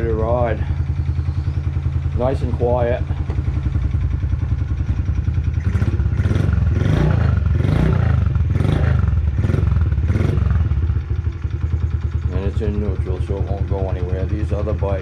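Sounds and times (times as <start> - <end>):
small motorcycle engine idling: 0.0 - 15.0.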